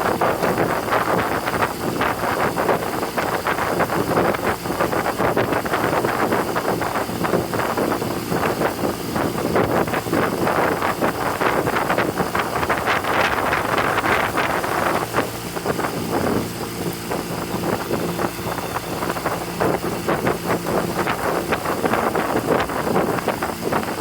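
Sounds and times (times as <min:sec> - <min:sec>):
motorboat engine running: 0:00.0 - 0:24.0
water splashing against hull: 0:00.0 - 0:24.0
wind buffeting microphone: 0:00.0 - 0:24.0.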